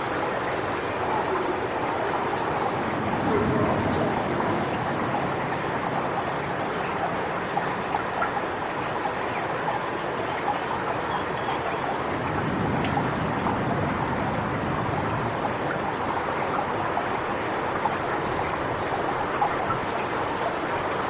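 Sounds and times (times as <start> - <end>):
wind rushing through palm fronds: 0.0 - 21.0.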